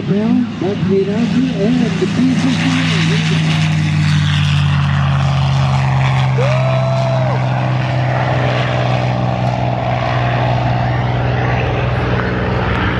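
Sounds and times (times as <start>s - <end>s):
propeller plane engine at full power: 0.0s - 12.9s.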